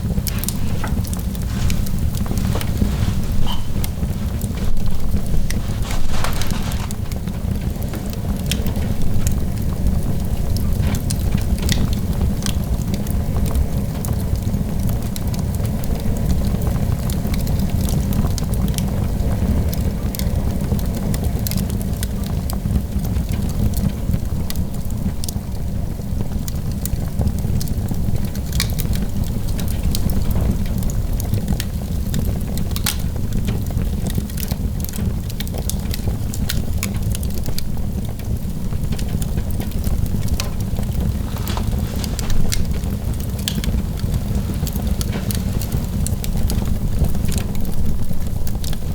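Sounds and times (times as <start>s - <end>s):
fire crackling and popping: 0.0s - 48.9s
fire flames rumbling: 0.0s - 48.9s.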